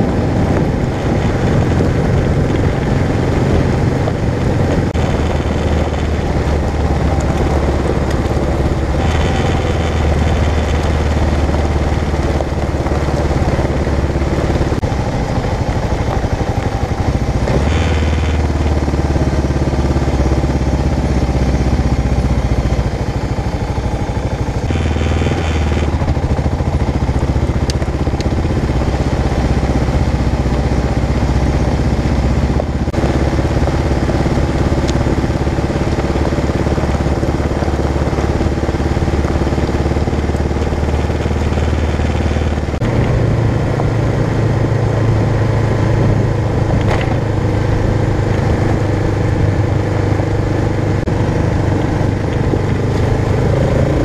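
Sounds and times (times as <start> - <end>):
motorcycle engine riding: 0.0 - 54.0.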